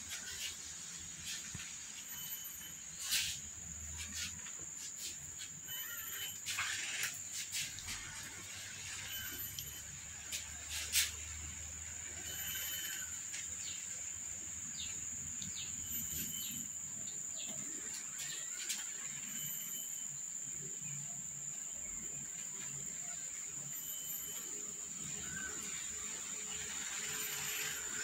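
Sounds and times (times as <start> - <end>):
high-pitched insect drone: 0.0 - 28.0
insect chirps: 0.0 - 28.0.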